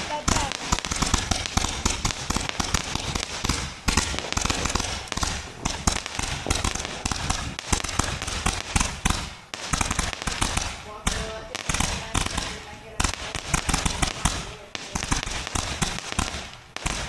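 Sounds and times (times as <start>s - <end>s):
fireworks popping and crackling: 0.0s - 17.0s.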